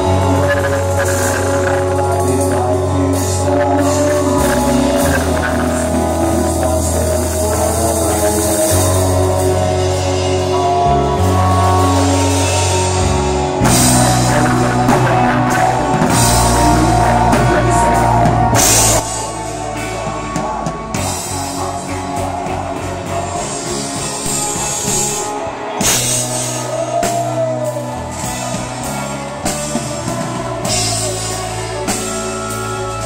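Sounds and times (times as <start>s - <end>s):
drum kit with cymbals: 0.0s - 33.0s
electric bass: 0.0s - 33.0s
live rock band playing: 0.0s - 33.0s.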